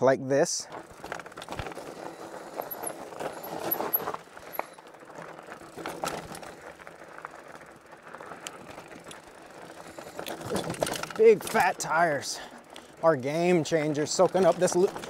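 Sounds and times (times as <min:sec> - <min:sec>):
bike clicking and rattling: 0:00.6 - 0:15.0
tyres crunching on stones: 0:00.7 - 0:15.0.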